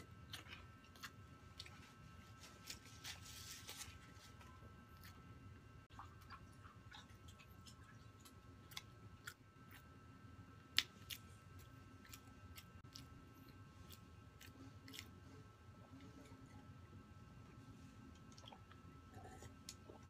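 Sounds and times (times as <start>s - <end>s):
quiet chewing: 0.0s - 20.0s.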